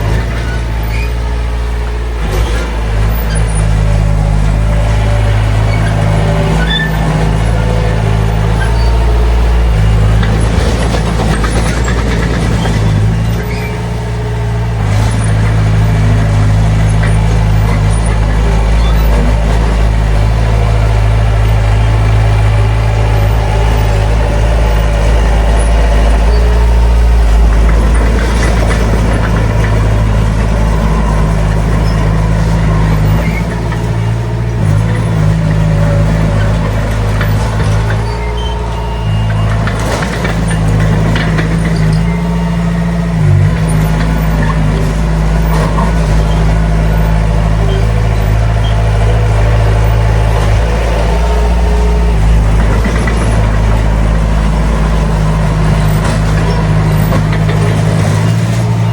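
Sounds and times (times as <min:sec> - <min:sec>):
heavy diesel engine running: 0:00.0 - 0:58.9.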